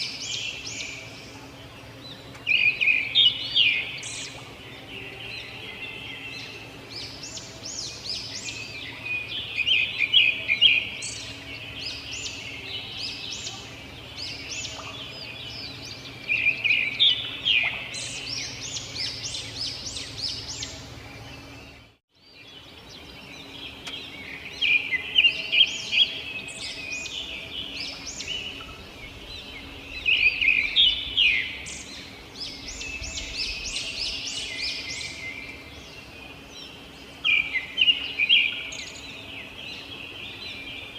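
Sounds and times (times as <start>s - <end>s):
robin singing: 0.0s - 40.9s.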